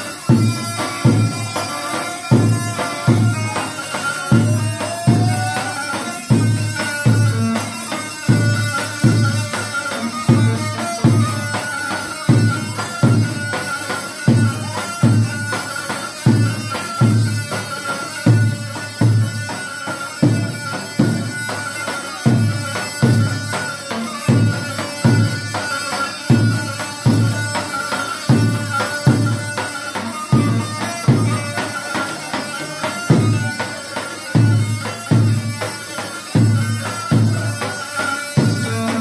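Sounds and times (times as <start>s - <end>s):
buzzing reed pipe melody: 0.0s - 39.0s.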